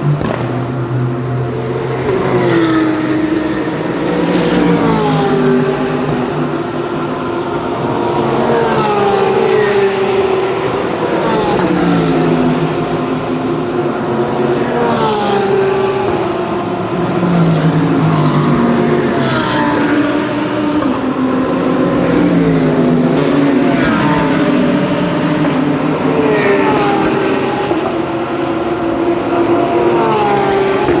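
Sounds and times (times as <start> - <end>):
race cars passing: 0.0 - 31.0.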